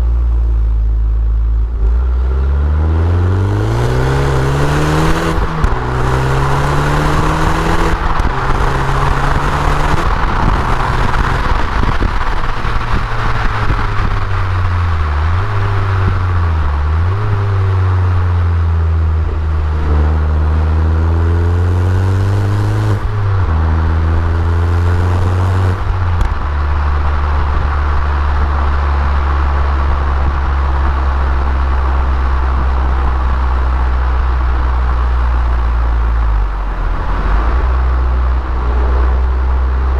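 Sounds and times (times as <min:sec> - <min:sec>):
car engine revving: 0:01.7 - 0:39.9.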